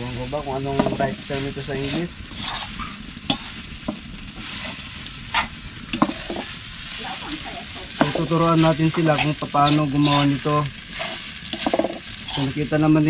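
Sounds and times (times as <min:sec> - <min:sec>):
steady sizzle: 0:00.0 - 0:13.0
metal spoon scraping a pan: 0:00.7 - 0:06.6, 0:07.2 - 0:12.6.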